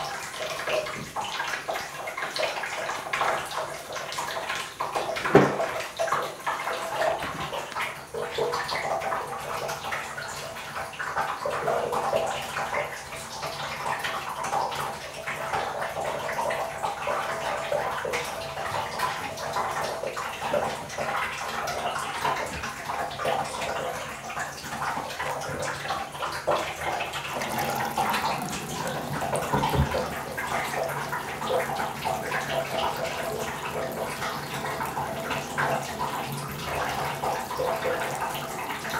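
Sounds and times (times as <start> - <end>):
tap water splashing into basin: 0.0 - 38.9.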